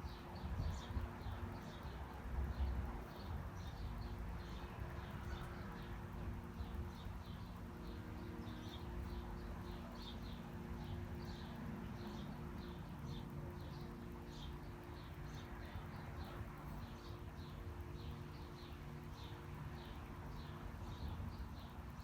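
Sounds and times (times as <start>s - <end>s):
faint constant hum: 0.0s - 22.0s
low city rumble: 0.0s - 22.0s
small birds chirping: 0.0s - 22.0s.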